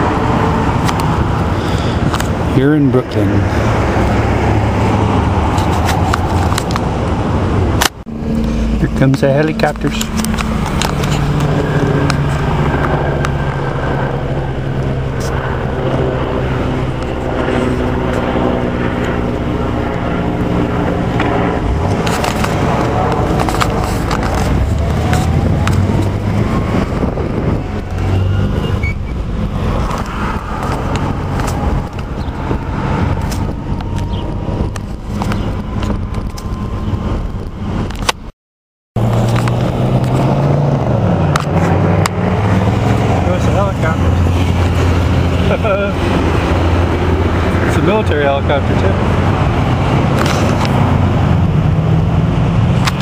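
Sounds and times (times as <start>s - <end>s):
helicopter engine and rotor drone: 0.0s - 38.2s, 39.0s - 53.0s
street traffic: 0.0s - 38.3s, 39.0s - 53.0s.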